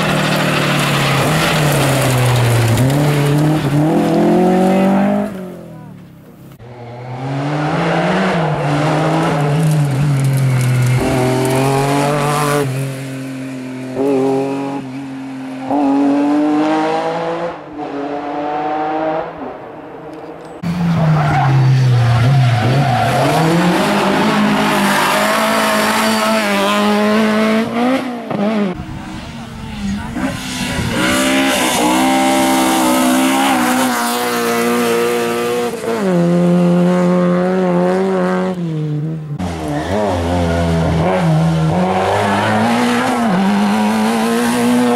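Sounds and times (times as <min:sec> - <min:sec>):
rally car engines at full throttle: 0:00.0 - 0:44.9.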